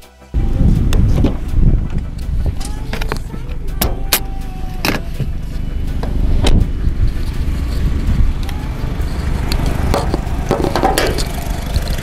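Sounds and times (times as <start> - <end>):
car engine idling: 0.3 - 12.0.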